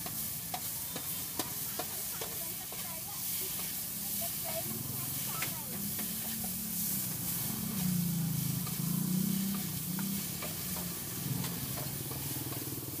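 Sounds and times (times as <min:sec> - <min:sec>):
noodles and egg sizzling on a wok: 0:00.0 - 0:13.0
spatula scraping and tapping metal: 0:00.0 - 0:13.0.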